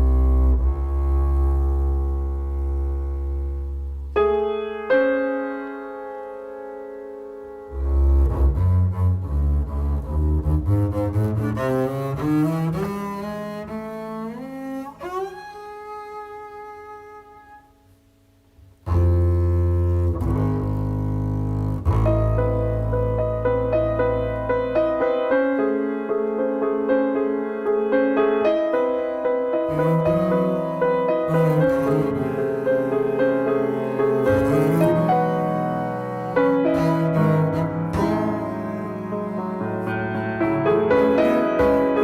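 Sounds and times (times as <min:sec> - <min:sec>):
bowed double bass: 0:00.0 - 0:05.2, 0:07.4 - 0:42.0
piano: 0:00.0 - 0:42.0.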